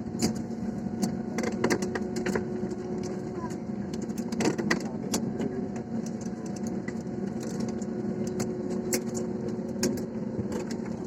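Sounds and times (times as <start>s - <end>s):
jet engines humming: 0.0s - 11.0s
clicks and rattles in cabin: 0.1s - 11.0s.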